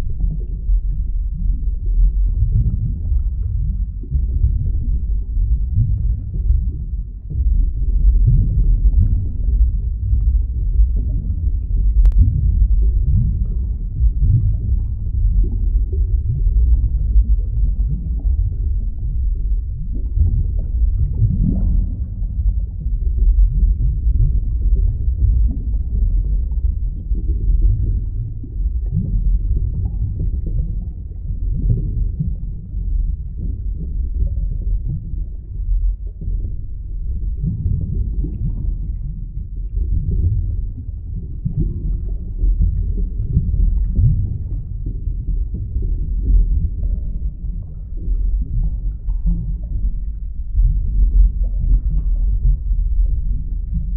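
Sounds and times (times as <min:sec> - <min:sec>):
muffled underwater rumble: 0:00.0 - 0:53.9
water gurgles: 0:00.0 - 0:53.9.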